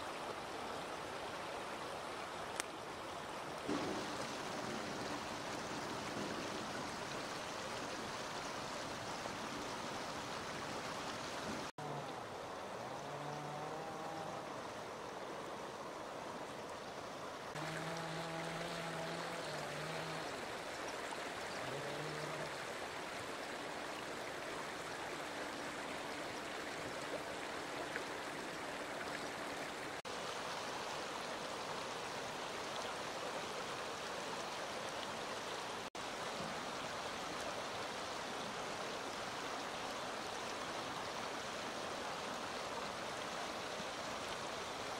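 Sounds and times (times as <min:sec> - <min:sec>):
river rushing over stones: 0:00.0 - 0:44.9.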